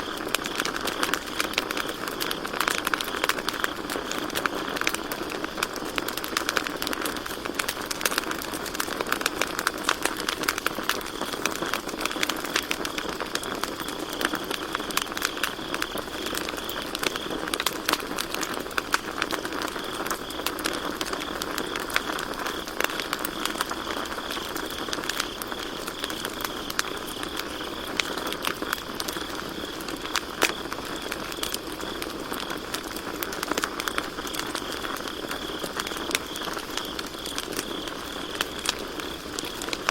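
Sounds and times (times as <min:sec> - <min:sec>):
campfire crackling: 0:00.0 - 0:39.9
crickets chirring: 0:00.0 - 0:39.9.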